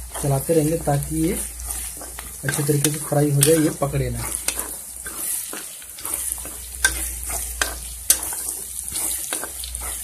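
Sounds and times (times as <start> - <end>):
onions sizzling in hot oil: 0.0 - 10.0
spatula scraping a pan: 0.0 - 10.0.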